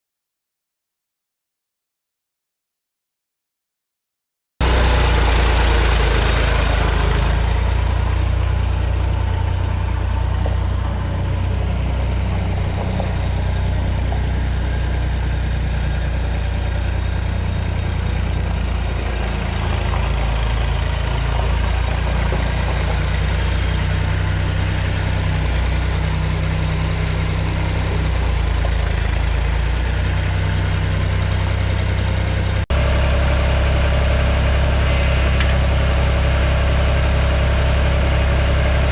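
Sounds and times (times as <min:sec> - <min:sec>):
tractor engine idling: 0:04.6 - 0:38.9.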